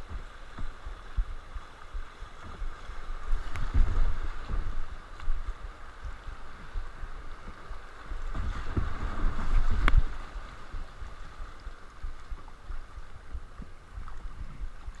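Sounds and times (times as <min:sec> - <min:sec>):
river water rushing: 0:00.0 - 0:15.0
wind rumbling on microphone: 0:00.0 - 0:15.0.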